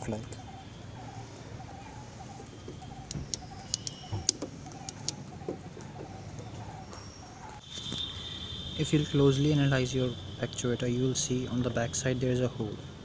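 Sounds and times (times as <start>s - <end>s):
birds calling: 0.0s - 12.5s.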